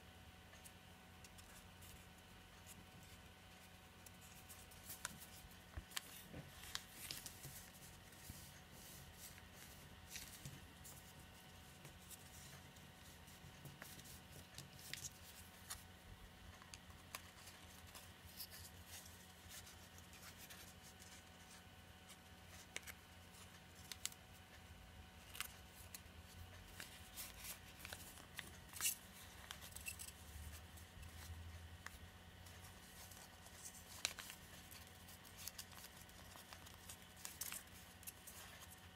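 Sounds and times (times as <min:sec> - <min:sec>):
paper crinkling while folded: 0:00.5 - 0:38.9.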